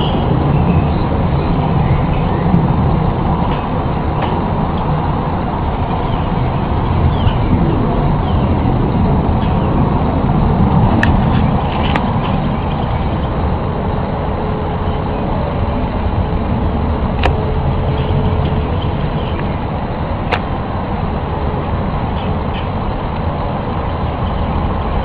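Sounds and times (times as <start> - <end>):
dense low rumble: 0.0 - 25.0
faint steady hum: 0.0 - 25.0.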